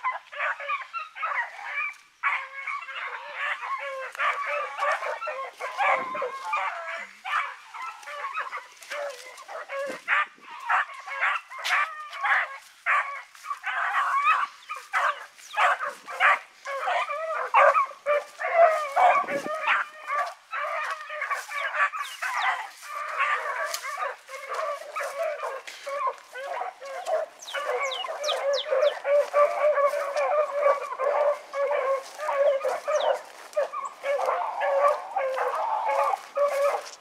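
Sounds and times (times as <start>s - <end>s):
hounds baying: 0.0s - 37.0s.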